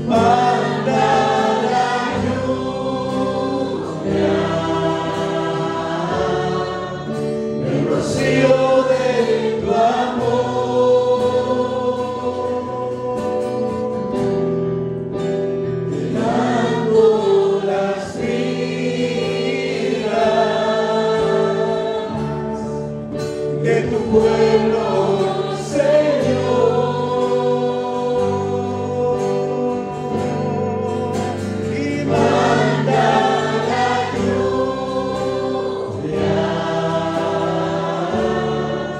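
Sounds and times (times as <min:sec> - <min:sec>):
choir singing worship song: 0:00.0 - 0:38.9.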